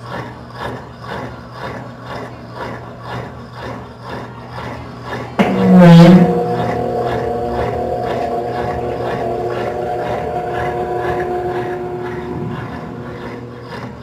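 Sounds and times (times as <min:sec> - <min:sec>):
washing machine spin cycle: 0:00.0 - 0:14.0.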